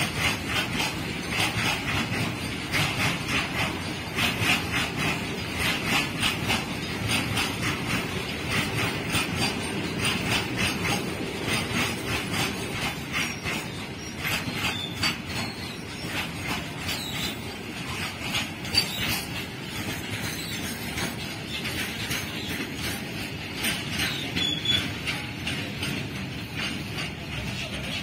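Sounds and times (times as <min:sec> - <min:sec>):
freight train rumble: 0:00.0 - 0:28.0
wheels clacking over track: 0:00.0 - 0:28.0.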